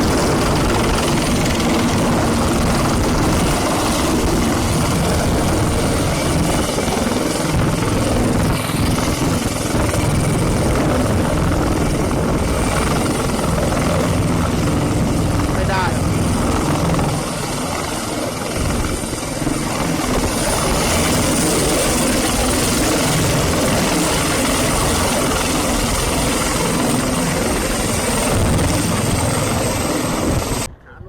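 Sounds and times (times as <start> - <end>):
helicopter running: 0.0 - 30.8.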